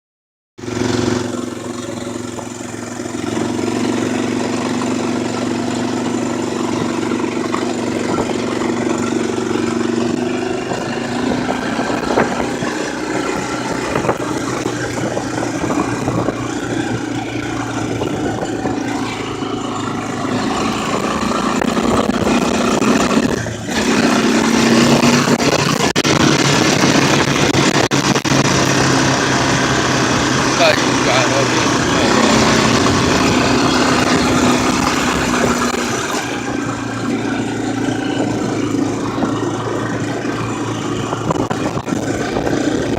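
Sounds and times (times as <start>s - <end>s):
atv engine revving: 0.6s - 42.9s.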